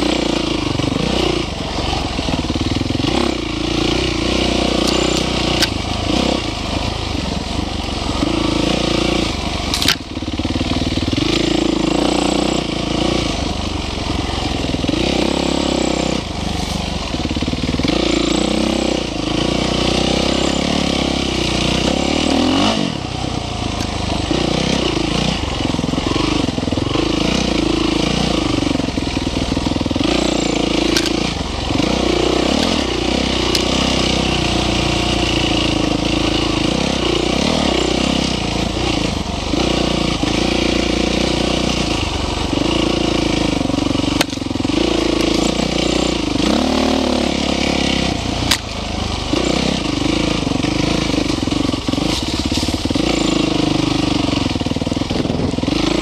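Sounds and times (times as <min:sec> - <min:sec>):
off-road vehicle engine: 0:00.0 - 0:56.0.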